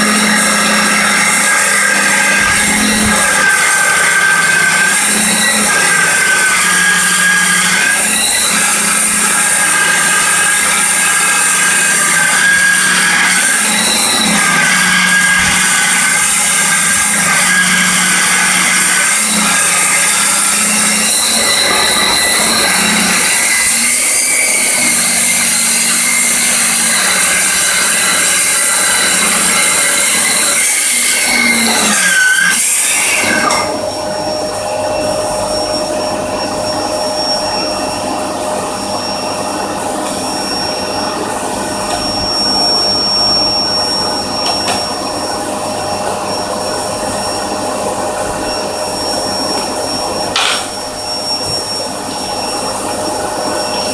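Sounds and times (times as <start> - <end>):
vacuum cleaner hum with whine: 0.0 - 31.9, 32.8 - 53.9
circular saw cutting board: 0.0 - 53.9.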